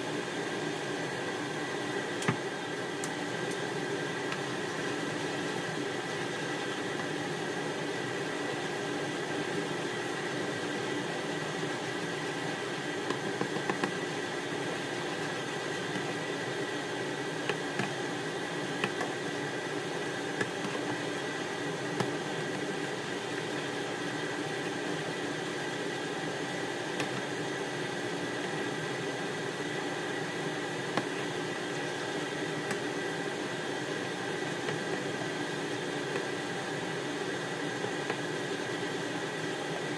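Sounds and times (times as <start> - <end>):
sauce simmering hiss: 0.0 - 39.9.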